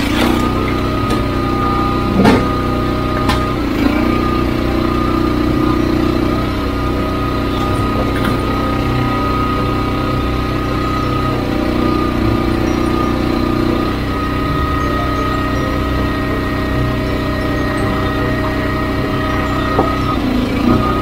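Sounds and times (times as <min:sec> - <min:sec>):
log splitter gas engine running: 0:00.0 - 0:21.0.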